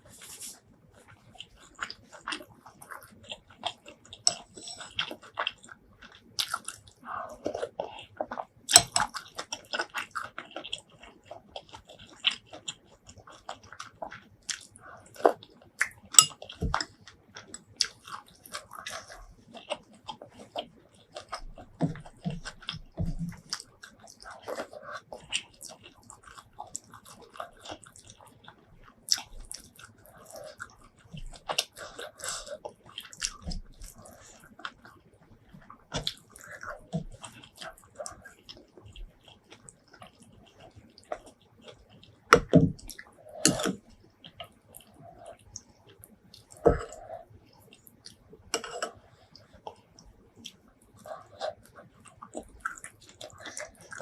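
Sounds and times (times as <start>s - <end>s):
chewing and wet mouth smacks: 0.2s - 54.0s.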